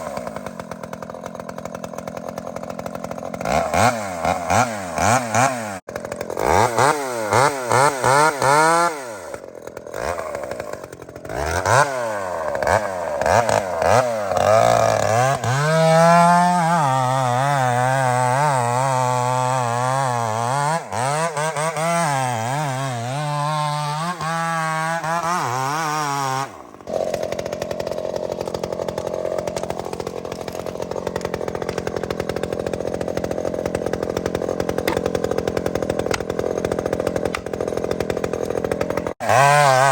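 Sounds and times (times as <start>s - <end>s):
gas chainsaw revving and cutting: 0.0s - 39.9s.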